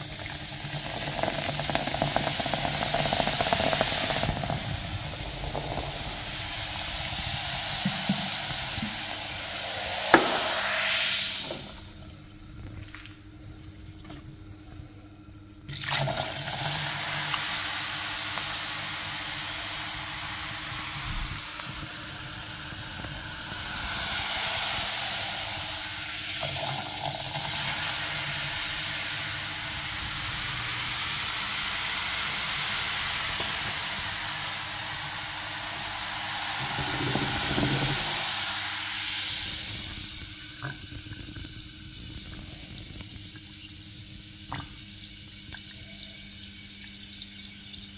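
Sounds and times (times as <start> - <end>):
cola fizzing: 0.0 - 13.0, 15.6 - 47.9.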